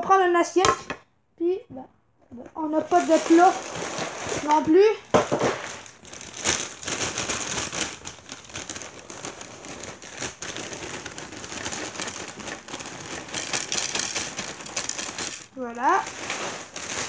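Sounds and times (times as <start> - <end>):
dry cereal rattling: 2.6 - 17.0
plastic bag crinkling: 2.6 - 17.0.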